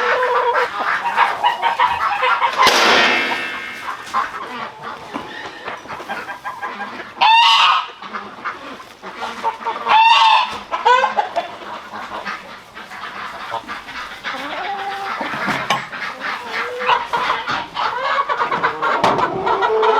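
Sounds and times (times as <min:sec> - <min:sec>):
chickens clucking: 0:00.0 - 0:19.9
geese honking: 0:00.0 - 0:19.9.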